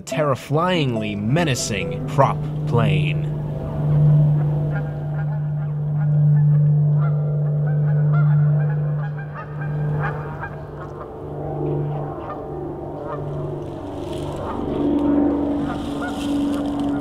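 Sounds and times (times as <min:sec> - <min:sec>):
geese honking: 0:00.0 - 0:12.4, 0:13.0 - 0:17.0
propeller plane droning: 0:00.0 - 0:17.0.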